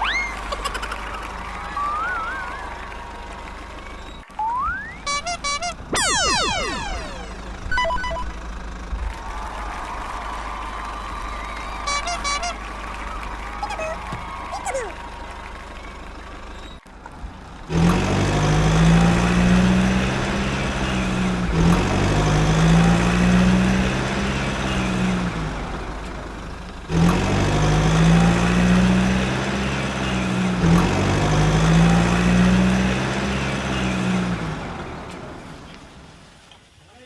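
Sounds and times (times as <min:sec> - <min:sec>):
heavy vehicle engine running: 0:00.0 - 0:36.4.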